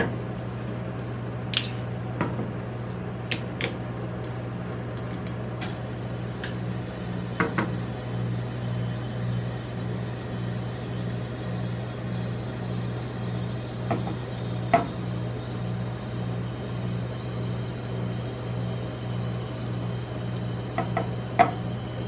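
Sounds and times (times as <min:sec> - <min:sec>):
ice cream machine hum: 0:00.0 - 0:22.0.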